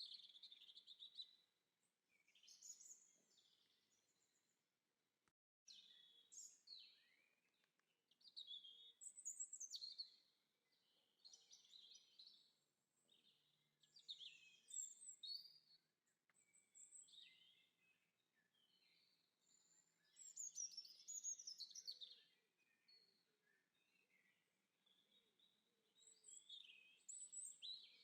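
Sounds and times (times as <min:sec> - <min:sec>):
songbirds chirping and trilling: 0:00.0 - 0:04.6, 0:05.7 - 0:28.0.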